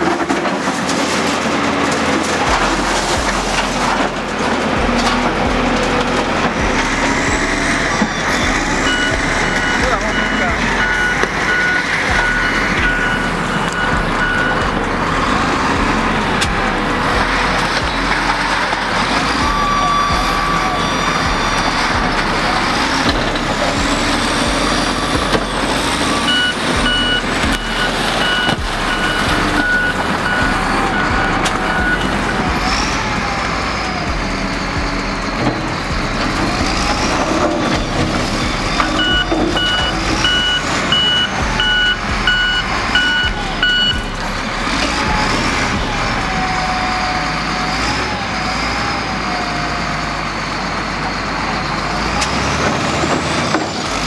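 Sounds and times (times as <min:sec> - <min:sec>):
diesel engine running: 0:00.0 - 0:54.0
reversing alarm beeping: 0:01.8 - 0:54.0.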